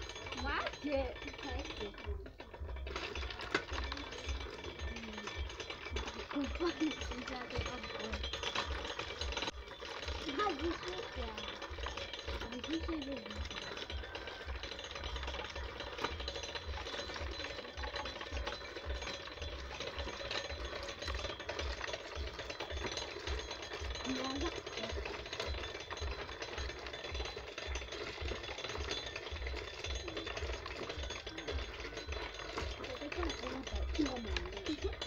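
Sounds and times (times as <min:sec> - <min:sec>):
hand-cranked coffee pulper rattling: 0:00.0 - 0:35.0.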